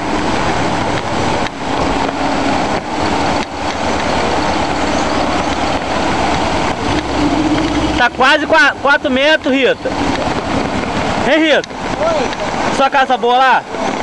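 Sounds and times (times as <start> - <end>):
deep water rumble: 0.0 - 14.0
rushing floodwater: 0.0 - 14.0.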